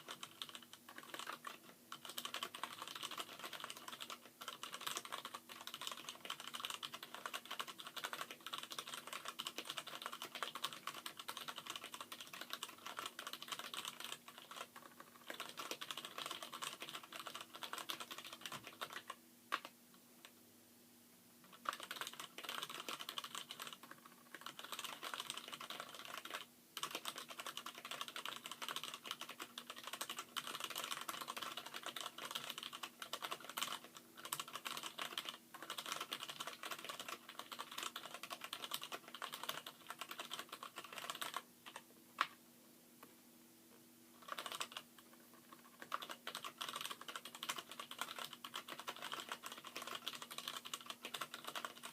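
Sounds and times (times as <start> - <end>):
fast typing on mechanical keyboard: 0.0 - 19.7, 21.5 - 41.8, 44.2 - 51.9.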